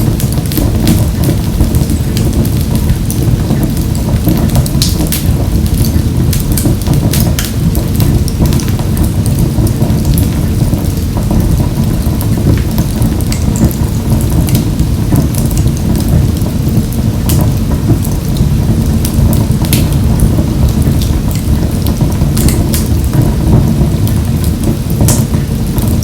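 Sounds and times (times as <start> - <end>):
fire crackles and pops: 0.0 - 26.0
wood fire rumbling: 0.0 - 26.0.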